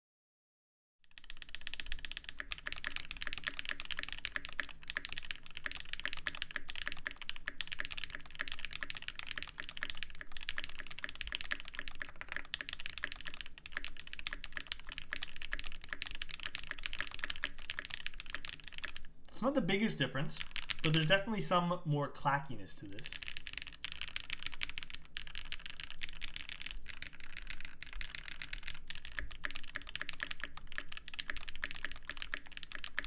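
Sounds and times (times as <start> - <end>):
fast mechanical keyboard typing: 1.0 - 33.0.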